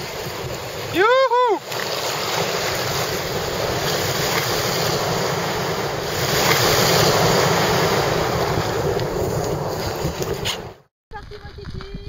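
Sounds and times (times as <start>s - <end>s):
surf breaking and hissing: 0.0s - 10.8s
wind buffeting microphone: 0.0s - 12.0s.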